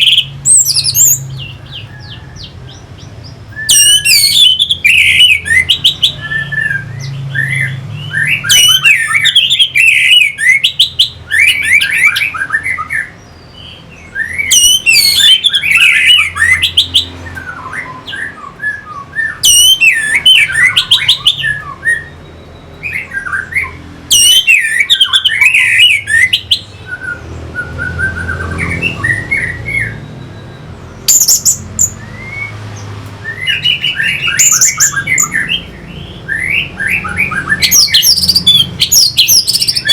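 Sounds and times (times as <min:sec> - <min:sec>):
thrush whistling song: 0:00.0 - 0:39.9.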